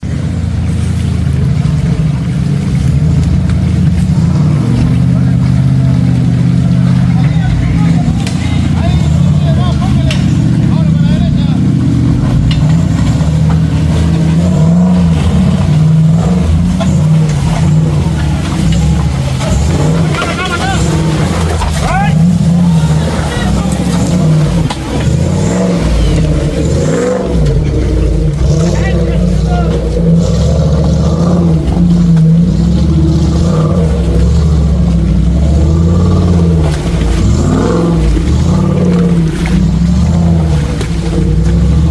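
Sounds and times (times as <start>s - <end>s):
engine revving: 0.0s - 41.9s.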